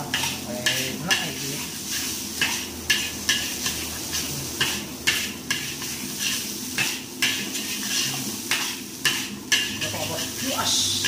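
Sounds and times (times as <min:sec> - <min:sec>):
metal spatula scraping a pan: 0:00.0 - 0:11.0
rice sizzling in a wok: 0:00.0 - 0:11.0.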